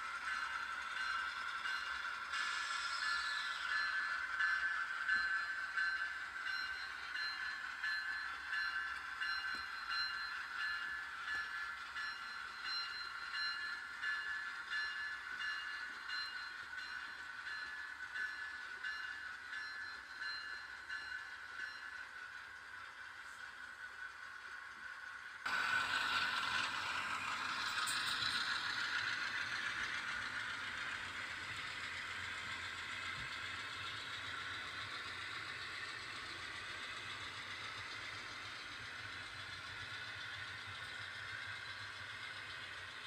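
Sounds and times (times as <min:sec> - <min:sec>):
train rolling along tracks: 0:00.0 - 0:43.0.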